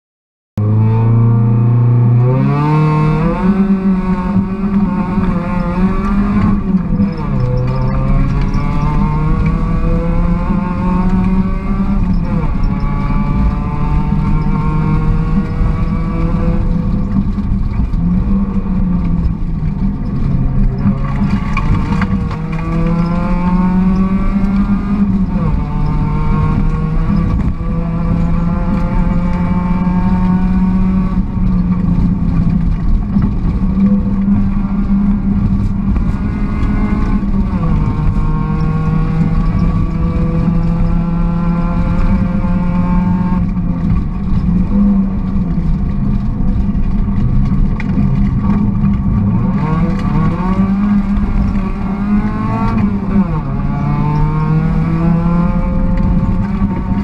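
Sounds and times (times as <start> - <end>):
car engine accelerating hard: 0.6 - 57.0.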